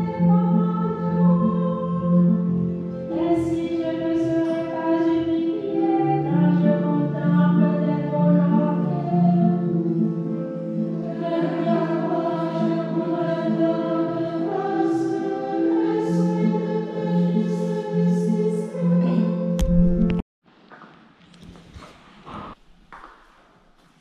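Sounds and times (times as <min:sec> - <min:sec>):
choir singing a hymn: 0:00.0 - 0:19.6.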